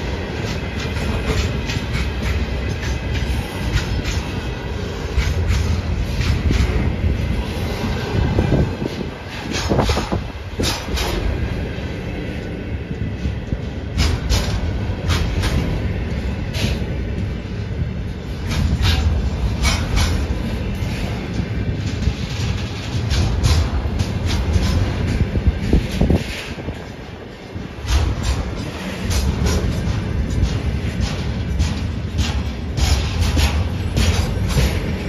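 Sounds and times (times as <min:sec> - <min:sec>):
sharp clacks of train wheels: 0:00.0 - 0:35.0
train wheels rumbling on rail: 0:00.0 - 0:35.0.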